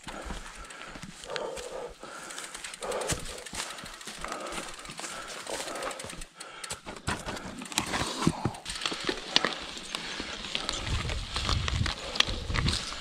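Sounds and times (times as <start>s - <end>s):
bike knocking and rattling: 0.0s - 13.0s
bike tyres on loose dirt: 0.0s - 13.0s.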